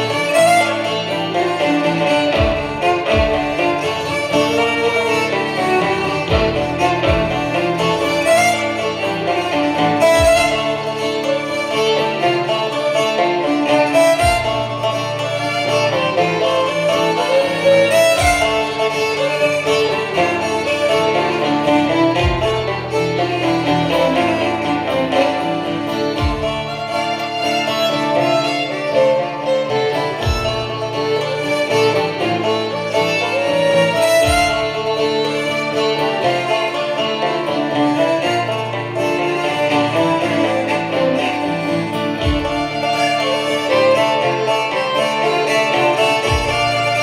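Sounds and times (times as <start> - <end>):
fiddles and banjo playing: 0.0 - 47.0.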